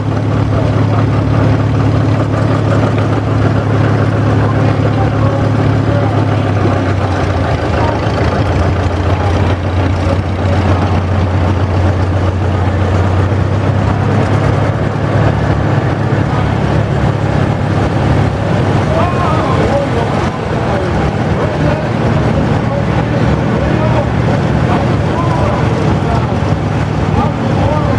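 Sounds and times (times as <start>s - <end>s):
tractor engines droning: 0.0s - 27.9s.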